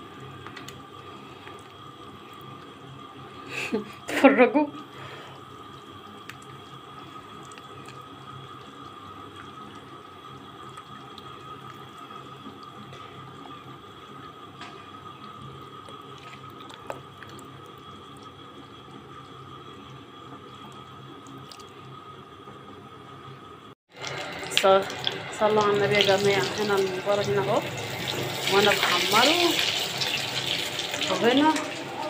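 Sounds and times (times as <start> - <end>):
water boiling in a pot: 0.0 - 32.0.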